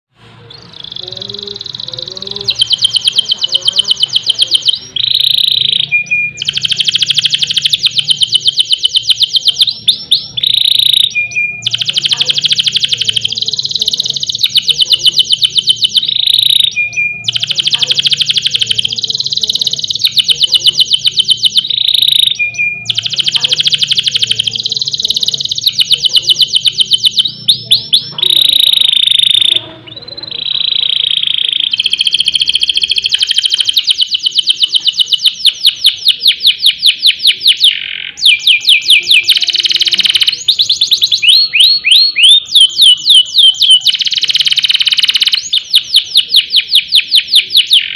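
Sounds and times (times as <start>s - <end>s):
canary singing trills: 0.2s - 47.9s.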